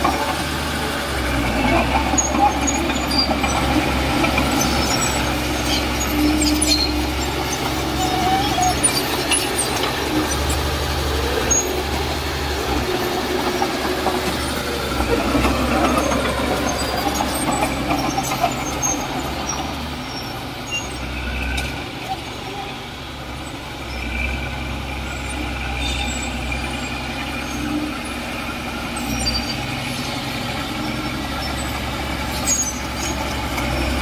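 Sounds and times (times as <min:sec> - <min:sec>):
heavy diesel engine rumble: 0:00.0 - 0:34.0.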